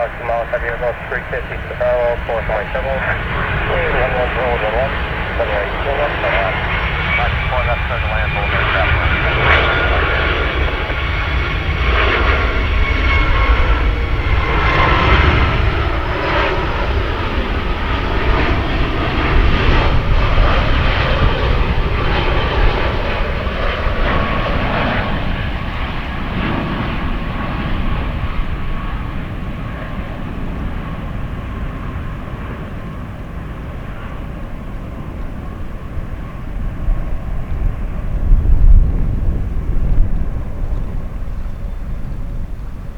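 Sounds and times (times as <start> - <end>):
jet engines rumbling and whining: 0.0 - 42.9.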